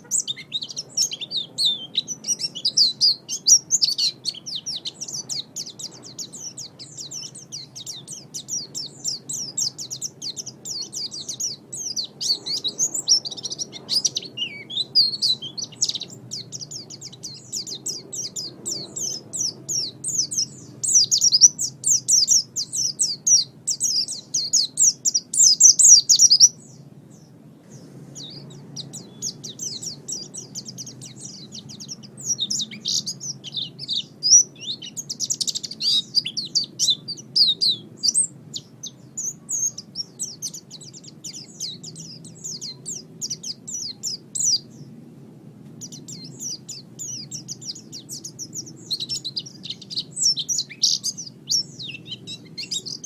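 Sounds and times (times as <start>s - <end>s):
bird twittering song: 0.0s - 45.0s, 45.6s - 53.0s
faint low hum: 0.0s - 53.0s.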